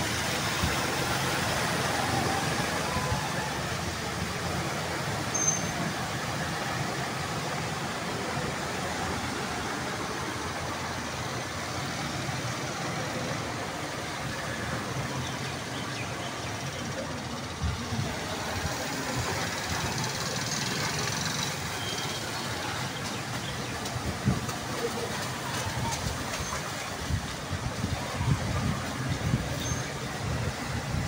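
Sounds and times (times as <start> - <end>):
rain hissing: 0.0 - 31.0
running floodwater: 0.0 - 31.0.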